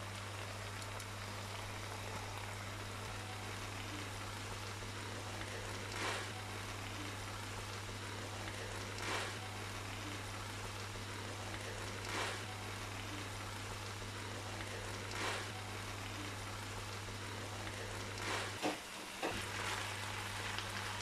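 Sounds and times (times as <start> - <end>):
food frying in a wok: 0.0 - 21.0
low steady hum: 0.0 - 21.0.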